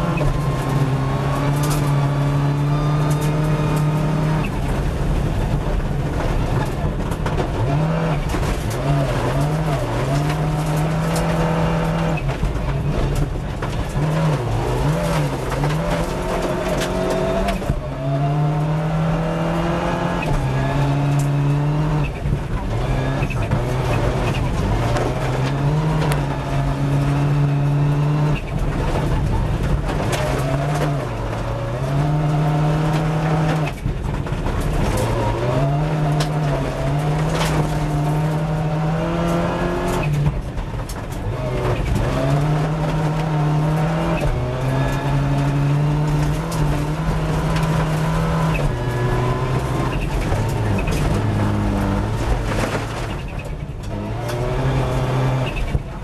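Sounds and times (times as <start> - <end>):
gravel knocks and clatters: 0.0 - 56.0
rally car engine revving: 0.0 - 56.0.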